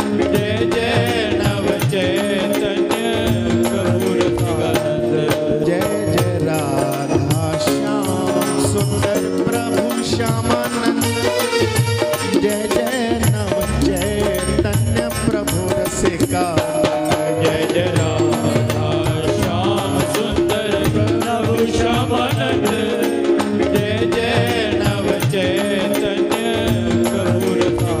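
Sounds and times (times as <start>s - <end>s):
drums: 0.0s - 28.0s
hand percussion clatter: 0.0s - 28.0s
held instrumental notes: 0.0s - 28.0s.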